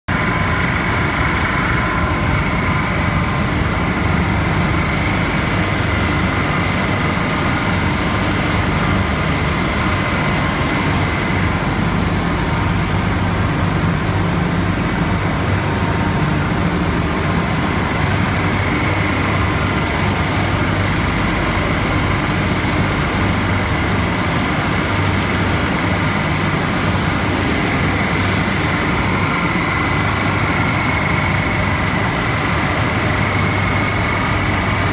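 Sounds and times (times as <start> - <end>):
recycling machinery hum and whine: 0.1 - 34.9.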